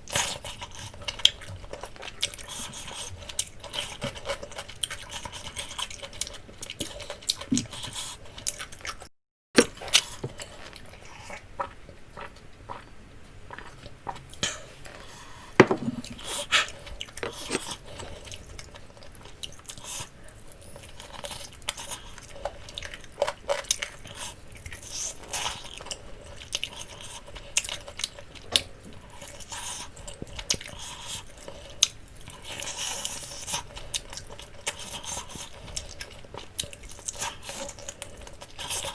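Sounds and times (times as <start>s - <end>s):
chewing food: 0.1s - 15.4s, 16.0s - 38.9s.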